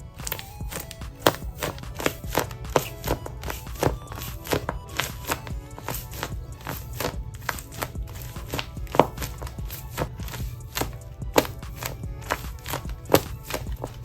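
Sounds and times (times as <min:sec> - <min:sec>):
background music with quick beat: 0:00.0 - 0:14.0.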